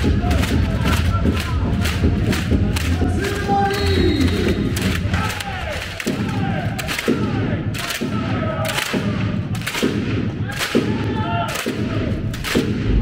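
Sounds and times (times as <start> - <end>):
crowd voices: 0.0 - 13.0
heavy echoing beats: 0.0 - 13.0.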